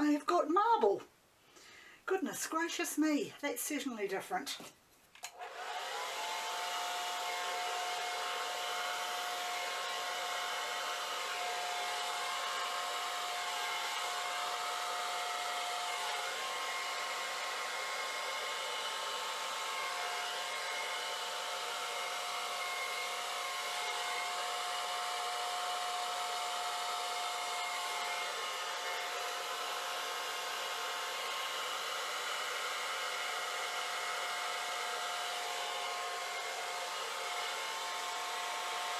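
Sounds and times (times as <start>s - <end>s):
blow dryer running: 5.2s - 38.9s.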